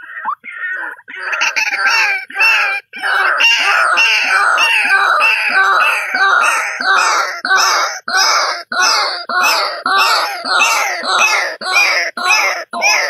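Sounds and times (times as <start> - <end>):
bird harsh croaking calls: 0.0 - 13.0.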